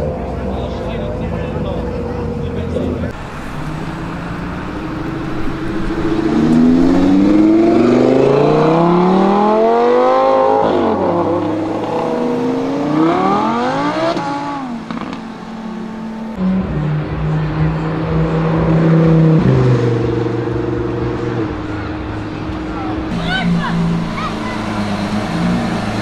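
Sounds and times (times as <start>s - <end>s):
car engines accelerating hard: 0.0s - 26.0s.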